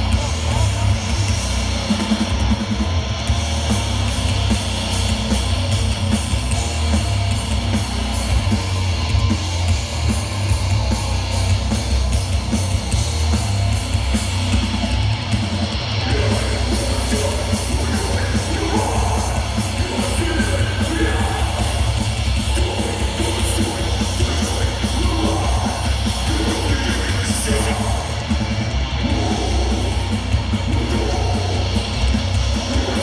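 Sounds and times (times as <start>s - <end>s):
live death metal: 0.0s - 33.0s.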